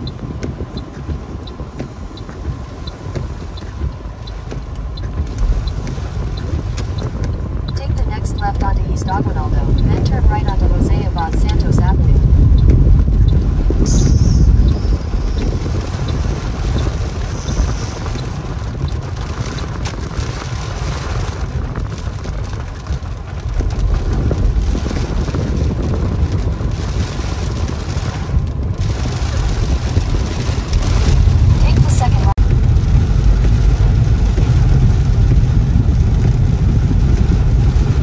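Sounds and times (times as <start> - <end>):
heavy rain on car roof: 0.0 - 38.0
road and engine rumble: 0.0 - 38.0.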